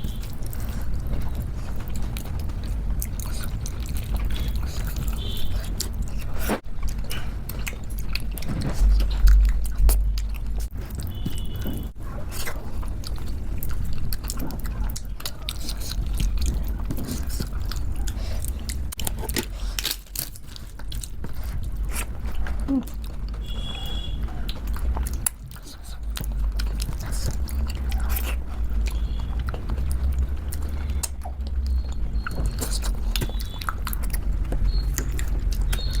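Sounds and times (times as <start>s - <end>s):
chewing and wet mouth sounds: 0.0s - 36.0s.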